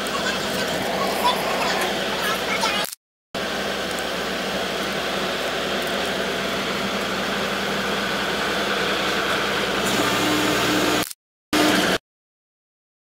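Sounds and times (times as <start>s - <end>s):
higher steady hum: 0.0s - 2.8s, 3.4s - 11.0s
crane engine running: 0.0s - 12.0s.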